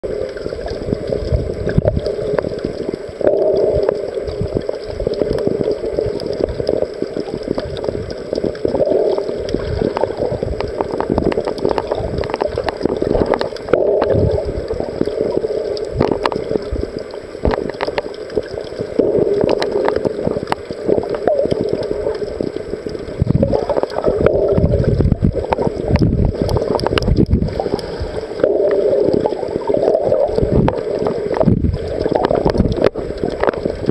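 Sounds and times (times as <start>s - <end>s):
water sloshing and gurgling: 0.0s - 33.9s
small clicks and crackles: 0.1s - 33.9s.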